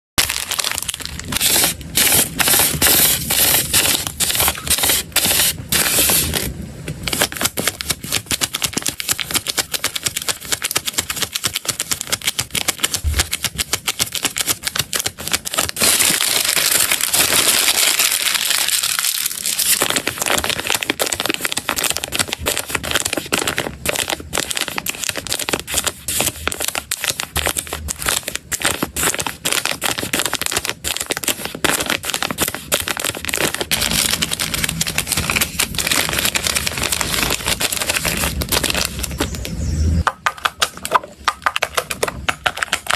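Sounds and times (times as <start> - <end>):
plastic packaging crinkling: 0.2 - 39.5, 40.4 - 42.9.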